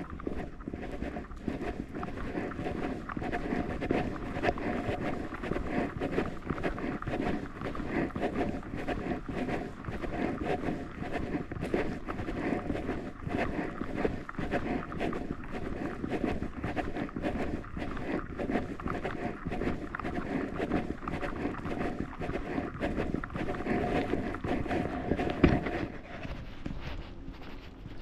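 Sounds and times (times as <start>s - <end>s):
footsteps on wet asphalt: 0.0s - 28.0s.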